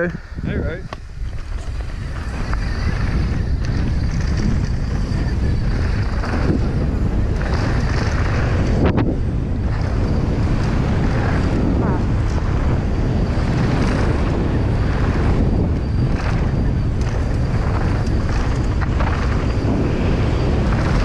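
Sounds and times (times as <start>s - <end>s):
bike tyres rumbling on gravel: 0.0s - 21.0s
wind rushing over microphone: 0.0s - 21.0s.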